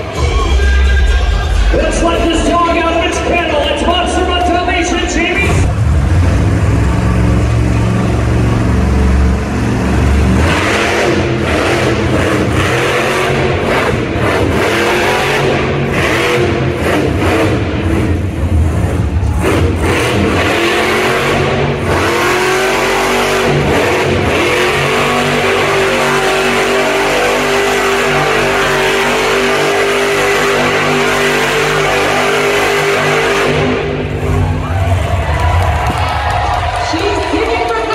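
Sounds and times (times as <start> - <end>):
monster truck engine revving: 0.0 - 37.9.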